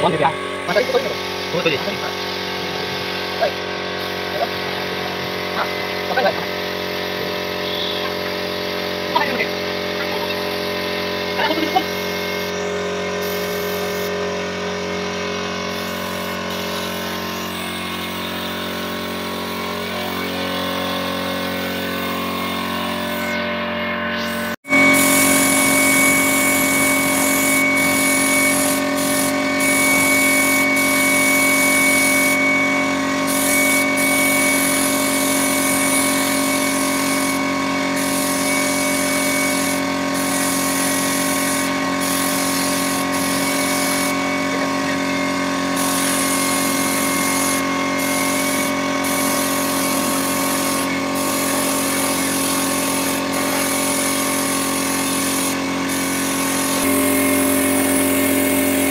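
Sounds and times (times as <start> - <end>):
spray gun hissing: 0.0 - 23.4, 24.2 - 58.9
air compressor humming: 0.0 - 58.9.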